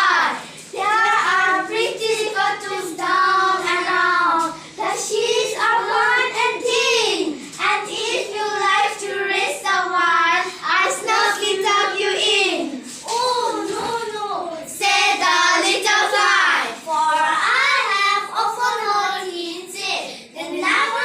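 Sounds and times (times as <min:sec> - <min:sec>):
children chanting a poem: 0:00.0 - 0:21.0.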